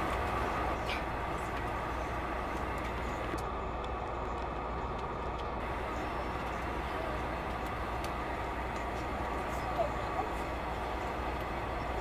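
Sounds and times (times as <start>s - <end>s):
constant tone: 0.0s - 12.0s
turboprop engines droning: 0.0s - 12.0s.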